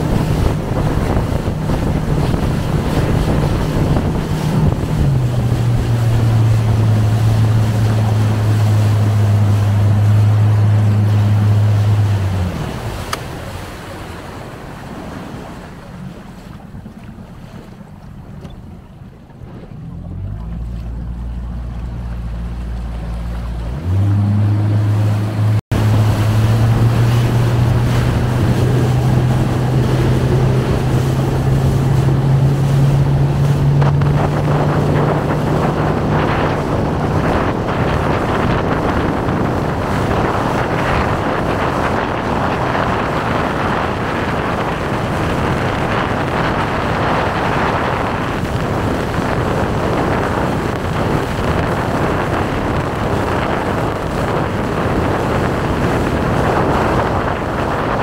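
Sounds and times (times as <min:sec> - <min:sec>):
wind noise on microphone: 0:00.0 - 0:18.8, 0:19.4 - 0:58.0
motorboat engine running: 0:00.0 - 0:58.0
splashing water: 0:00.0 - 0:58.0.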